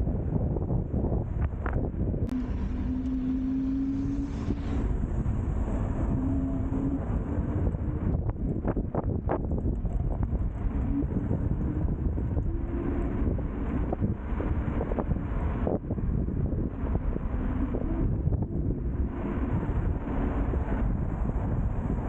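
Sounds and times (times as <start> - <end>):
wind buffeting microphone: 0.0 - 22.0
thin steady hum: 2.2 - 22.0.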